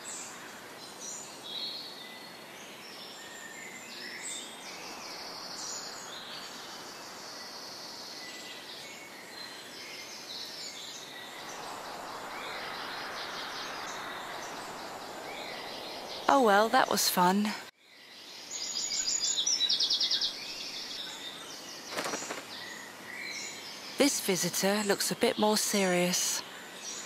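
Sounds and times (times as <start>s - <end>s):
outdoor background hiss: 0.0s - 27.0s
songbirds singing and chirping: 0.0s - 27.0s.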